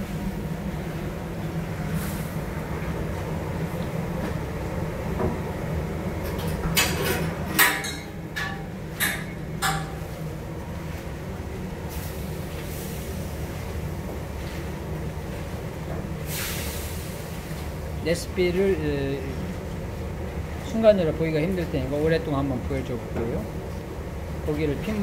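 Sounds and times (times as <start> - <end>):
low kitchen hum: 0.0 - 25.0.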